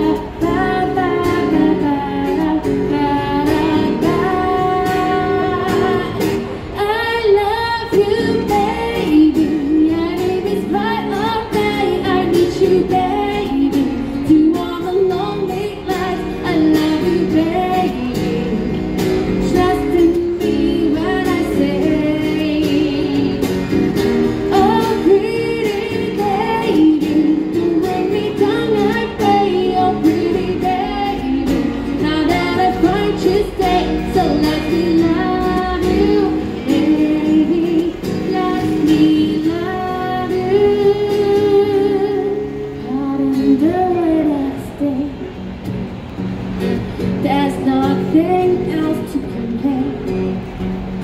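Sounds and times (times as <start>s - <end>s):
woman singing into microphone: 0.0s - 45.4s, 47.0s - 50.5s
acoustic guitar: 0.0s - 51.0s.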